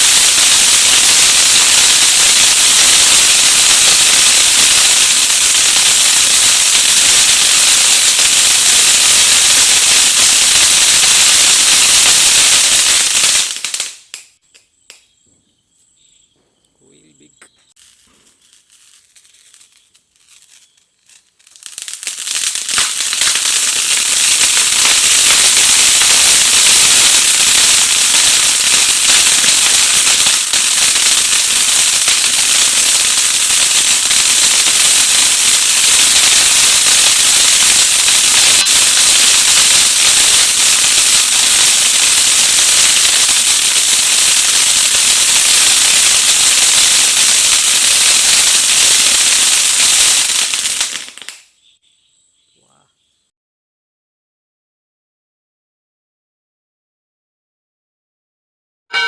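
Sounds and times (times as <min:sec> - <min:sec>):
fountain firework crackling spray: 0:00.0 - 0:14.4, 0:17.7 - 0:51.6.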